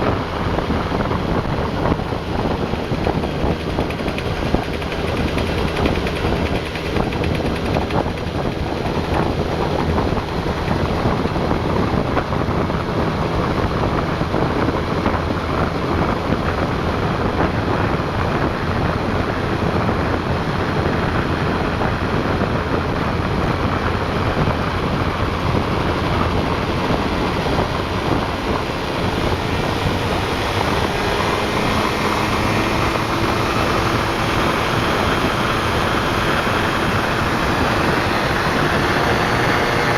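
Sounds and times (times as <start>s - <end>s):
scooter engine running: 0.0s - 39.9s
wind noise on microphone: 0.0s - 39.9s.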